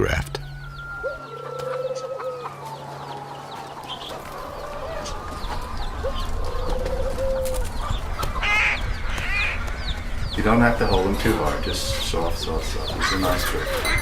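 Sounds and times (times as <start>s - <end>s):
chickens clucking: 0.0s - 14.0s
small birds chirping: 0.0s - 14.0s
trilled bird call: 0.2s - 14.0s.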